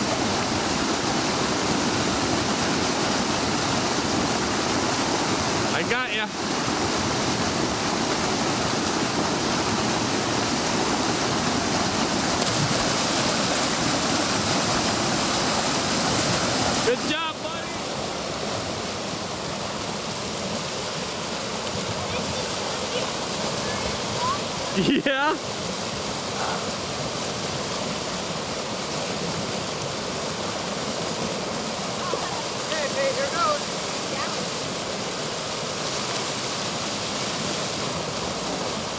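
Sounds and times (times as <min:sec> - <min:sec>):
river rapids roaring over rocks: 0:00.0 - 0:38.9.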